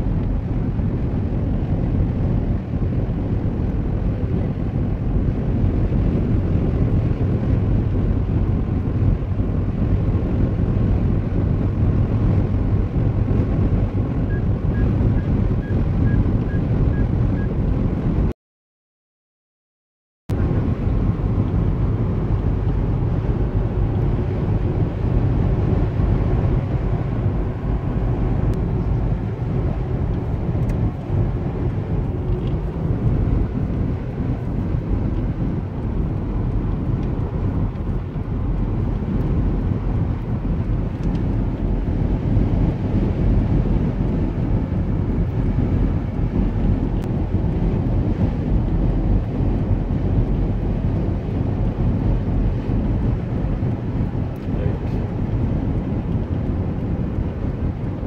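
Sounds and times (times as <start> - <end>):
car interior road rumble: 0.0 - 18.3, 20.3 - 58.0.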